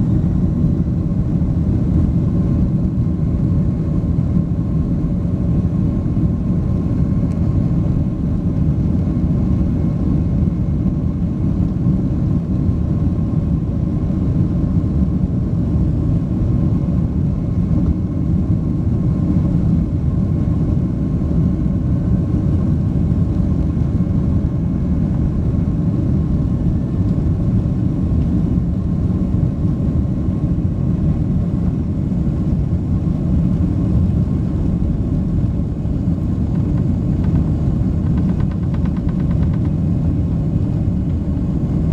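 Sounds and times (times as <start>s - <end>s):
faint engine whining tones: 0.0s - 41.9s
jet engine rumble from inside cabin: 0.0s - 41.9s.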